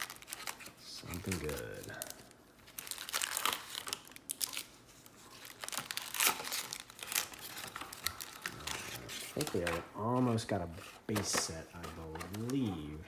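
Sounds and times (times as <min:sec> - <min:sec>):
plastic wrapping crinkling and tearing: 0:00.0 - 0:10.5.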